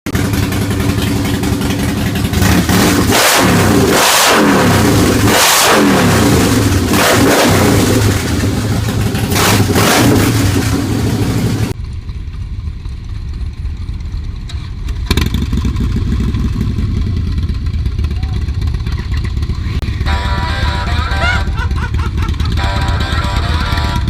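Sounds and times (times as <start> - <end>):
motorcycle engine revving: 0.1 - 24.0.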